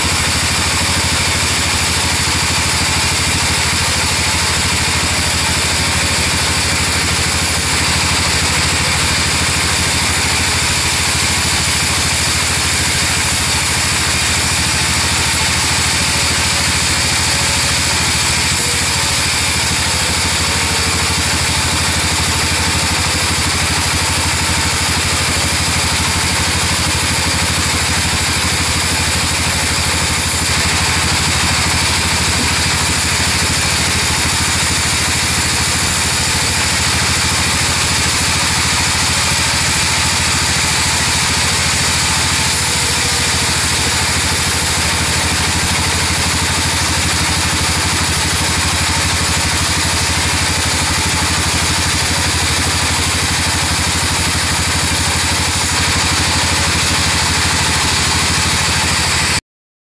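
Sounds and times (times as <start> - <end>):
saw drive drone: 0.0 - 59.4
band saw blade slicing wood: 2.6 - 59.3.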